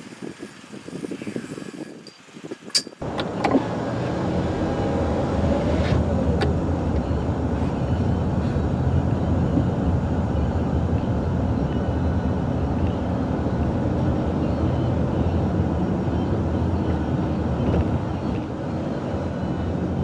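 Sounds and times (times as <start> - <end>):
road and engine noise inside car: 3.0 - 20.0.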